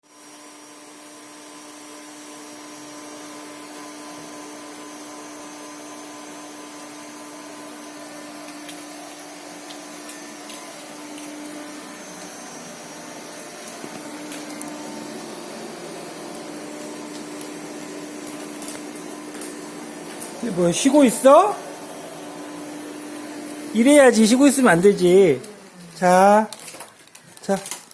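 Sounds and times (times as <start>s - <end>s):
vacuum cleaner running: 0.0s - 27.8s.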